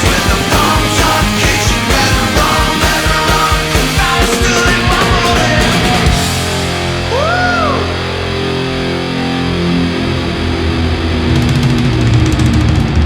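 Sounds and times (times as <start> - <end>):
heavy rock music: 0.0 - 13.0.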